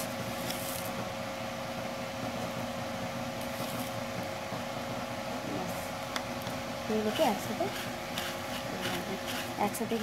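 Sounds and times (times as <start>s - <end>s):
appliance motor humming: 0.0s - 10.0s.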